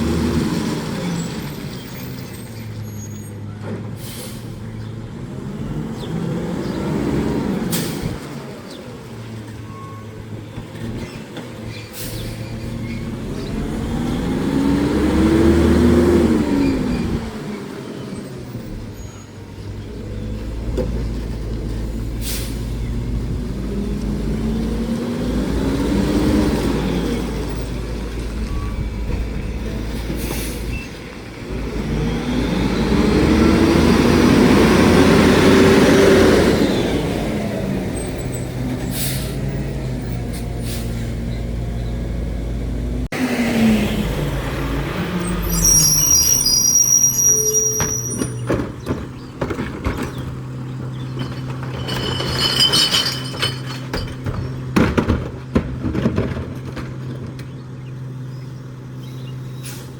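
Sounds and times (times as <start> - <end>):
garbage truck engine revving: 0.0 - 3.0, 3.8 - 59.9.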